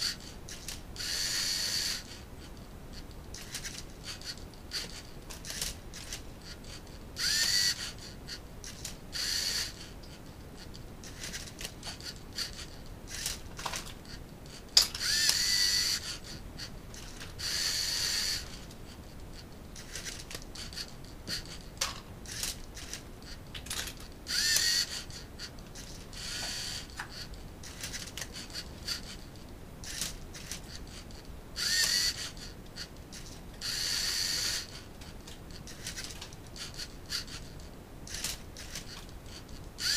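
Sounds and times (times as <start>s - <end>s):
servo motors whirring: 0.0s - 2.2s, 3.3s - 29.2s, 29.8s - 39.9s.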